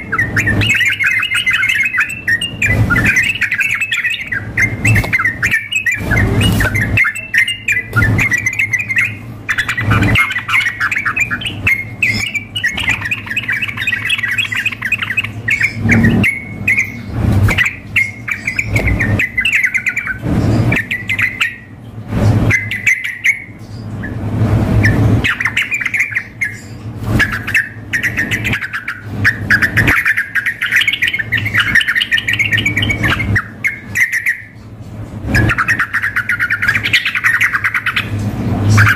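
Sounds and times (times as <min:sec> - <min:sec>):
birds chattering song: 0:00.0 - 0:38.9.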